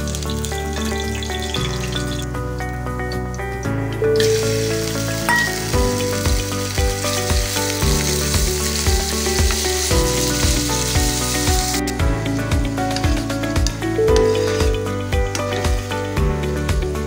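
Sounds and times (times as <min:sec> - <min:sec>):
garlic sizzling in hot oil: 0:00.0 - 0:02.3, 0:04.2 - 0:16.1
background music with steady beat: 0:00.0 - 0:17.0.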